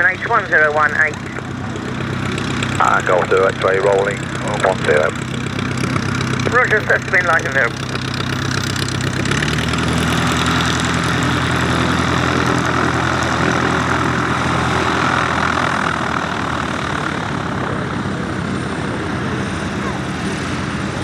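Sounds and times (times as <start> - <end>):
propeller aircraft taking off: 0.0 - 21.0.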